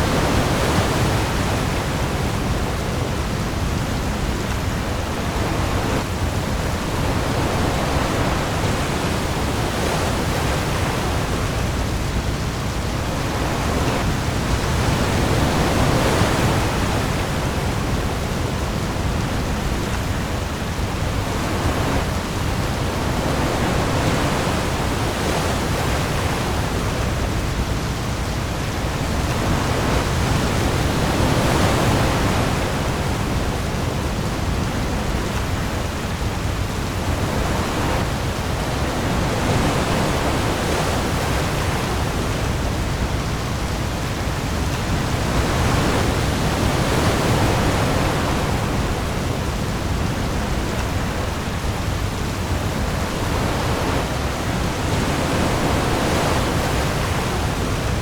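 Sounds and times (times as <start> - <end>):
heavy rain on sea: 0.0 - 58.0
waves rumbling: 0.0 - 58.0.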